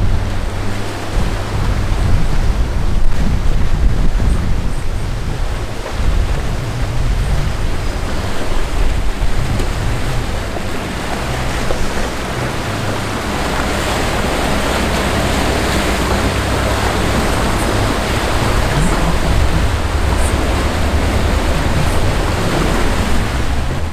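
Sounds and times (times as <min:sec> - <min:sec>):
rushing water churning: 0:00.0 - 0:23.9
wind buffeting microphone: 0:00.0 - 0:23.9.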